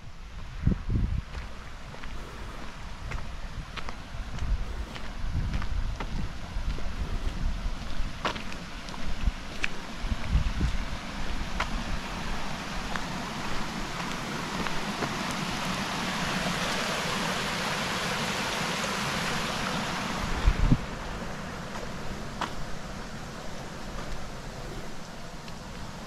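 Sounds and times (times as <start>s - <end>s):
water trickling over rocks: 1.4s - 26.0s.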